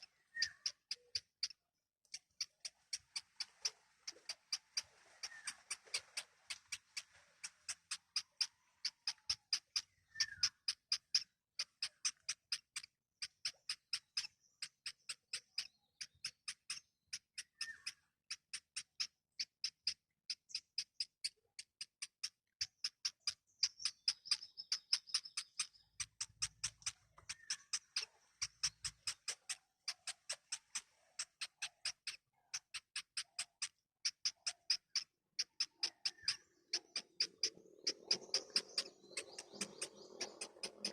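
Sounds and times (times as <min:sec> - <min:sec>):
baby birds peeping: 0:00.0 - 0:06.8, 0:07.6 - 0:40.9.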